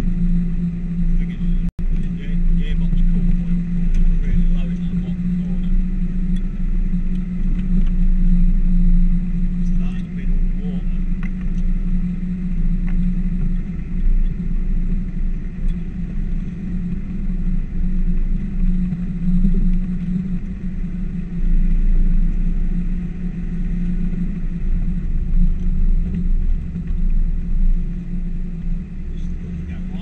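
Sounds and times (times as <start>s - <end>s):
engine and road noise in car cabin: 0.0s - 30.0s.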